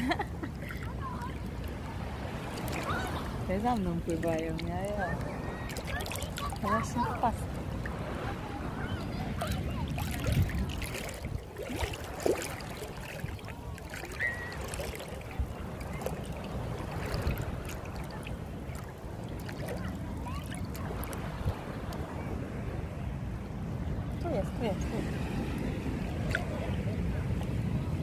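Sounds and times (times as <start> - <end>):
seawater splashing around legs: 0.0 - 8.3, 9.2 - 22.1, 25.5 - 27.5.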